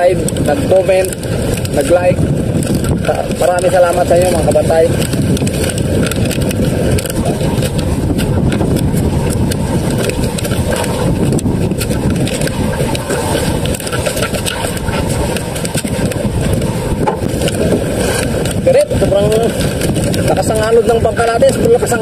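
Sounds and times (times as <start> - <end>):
sea washing around hull: 0.0 - 22.0
wind buffeting microphone: 0.0 - 22.0.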